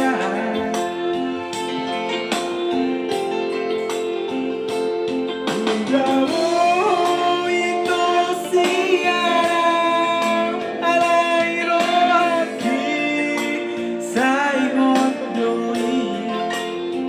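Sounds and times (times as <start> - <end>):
instrumental backing: 0.0 - 17.0.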